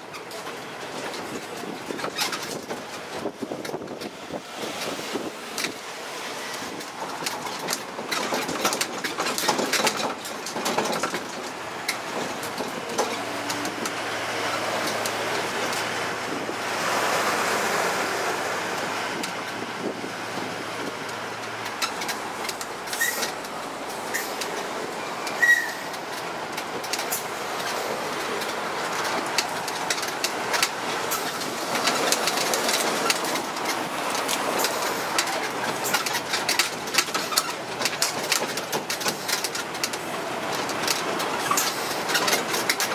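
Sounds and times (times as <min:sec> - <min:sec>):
road train ride rumble: 0:00.0 - 0:42.9.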